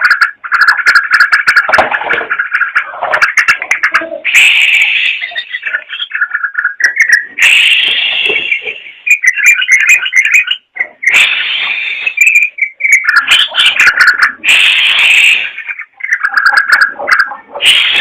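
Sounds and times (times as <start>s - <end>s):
bird singing: 0.0s - 18.0s.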